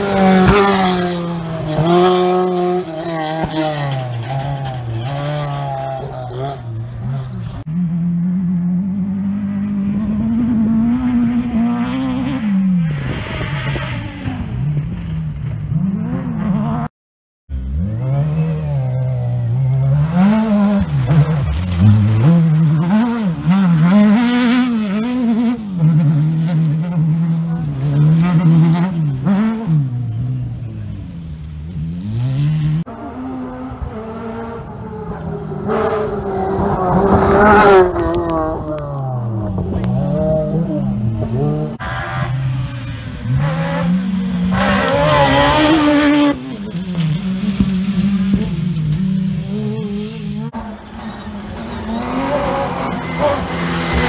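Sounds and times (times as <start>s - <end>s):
rally car engines revving: 0.0s - 16.9s, 17.5s - 54.0s.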